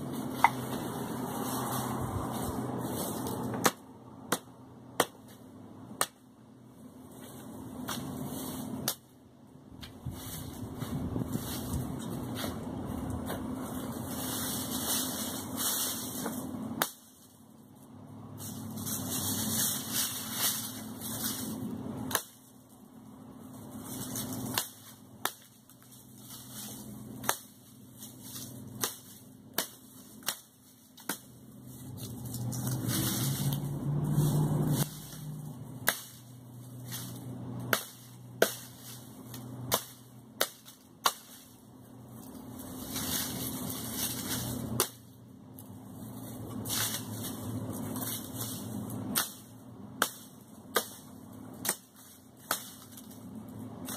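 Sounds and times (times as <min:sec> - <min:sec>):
machete chopping branches: 0:02.8 - 0:06.3, 0:07.3 - 0:09.2, 0:09.8 - 0:17.4, 0:18.4 - 0:22.7, 0:23.7 - 0:41.6, 0:42.2 - 0:45.2, 0:46.5 - 0:53.9.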